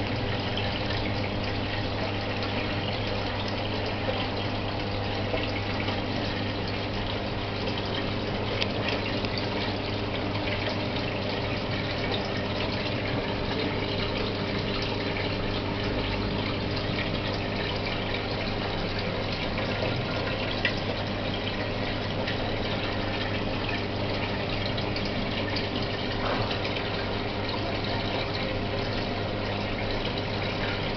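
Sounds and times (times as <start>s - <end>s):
filter pump motor hum: 0.0s - 30.9s
water splashing and trickling: 0.0s - 30.9s.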